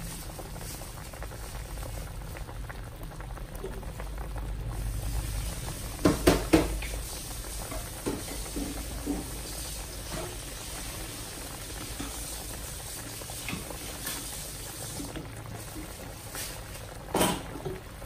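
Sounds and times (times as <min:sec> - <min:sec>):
gravy boiling and popping: 0:00.0 - 0:18.0.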